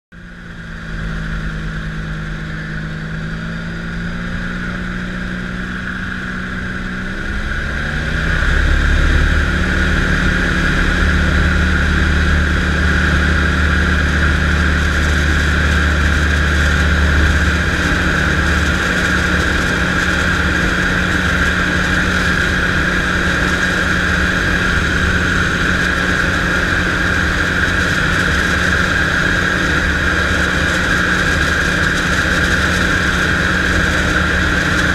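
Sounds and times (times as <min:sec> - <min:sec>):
aircraft piston engine drone: 0:00.2 - 0:34.9.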